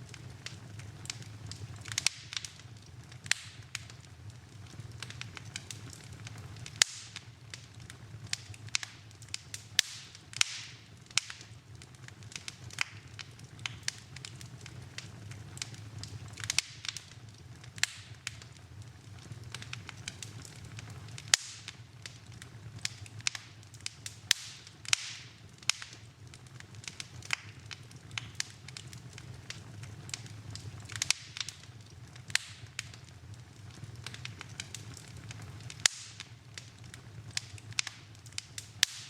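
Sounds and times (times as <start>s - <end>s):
steady low hum: 0.0s - 39.0s
wood fire crackling: 0.0s - 39.0s.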